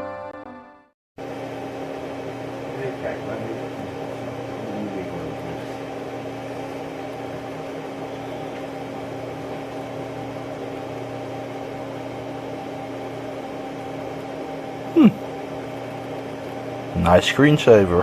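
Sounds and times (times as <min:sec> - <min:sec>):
steady machine hum: 0:01.2 - 0:18.0.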